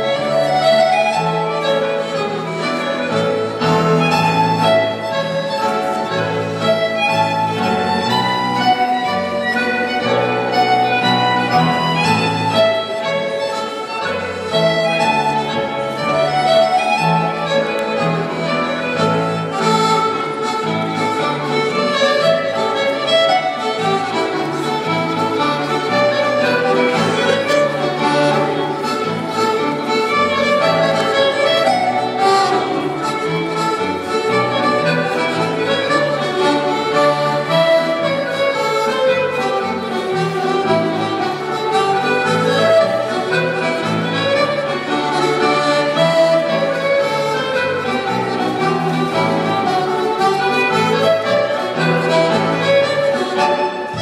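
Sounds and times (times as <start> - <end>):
fiddle dance music: 0.0 - 54.0.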